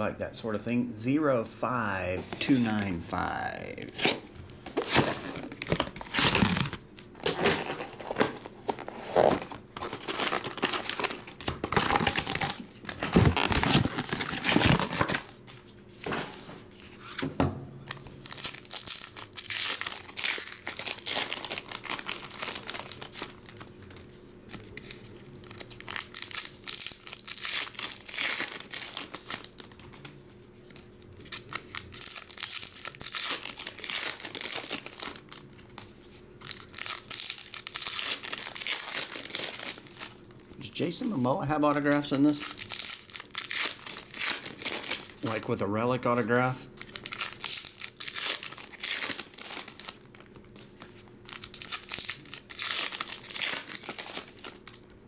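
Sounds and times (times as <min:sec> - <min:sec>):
foil packs tearing and crinkling: 0:04.8 - 0:15.4, 0:17.9 - 0:30.0, 0:31.1 - 0:40.3, 0:41.5 - 0:54.9.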